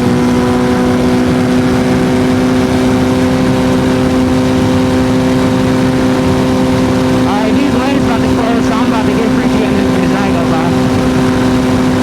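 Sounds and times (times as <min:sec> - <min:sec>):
motorcycle engine running steadily: 0:00.0 - 0:12.0
rush of noise: 0:00.0 - 0:12.0.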